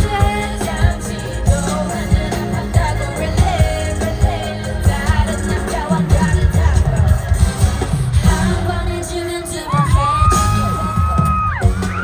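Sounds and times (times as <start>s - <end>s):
heavy bass beat: 0.0s - 12.0s
pop singing over sound system: 0.0s - 12.0s.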